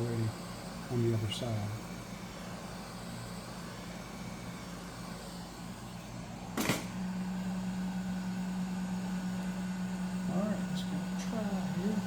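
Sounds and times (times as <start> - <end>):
hot air gun fan humming: 0.0 - 12.0.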